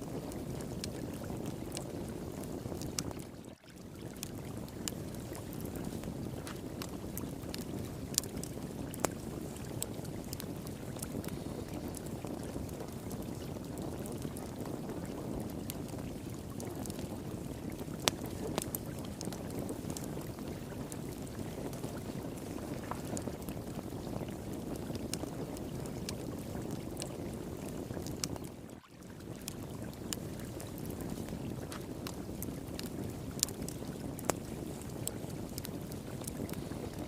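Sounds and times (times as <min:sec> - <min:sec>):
wood fire crackling and popping: 0:00.0 - 0:03.4, 0:04.0 - 0:37.0.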